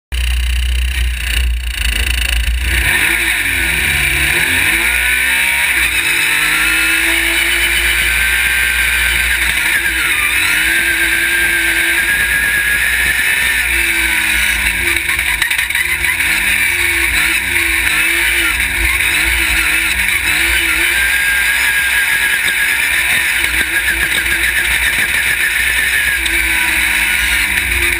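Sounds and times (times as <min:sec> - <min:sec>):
buggy engine revving: 0:00.1 - 0:27.9.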